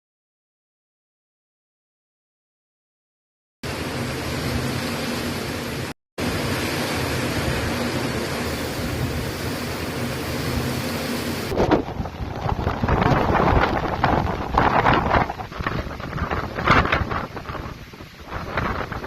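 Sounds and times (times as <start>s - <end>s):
storm wind and water rushing: 3.7s - 19.0s.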